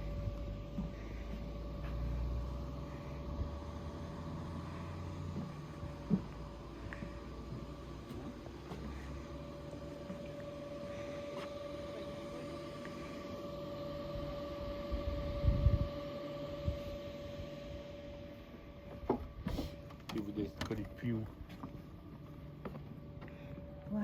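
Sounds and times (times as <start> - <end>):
mechanical hum with whine: 0.0 - 24.0.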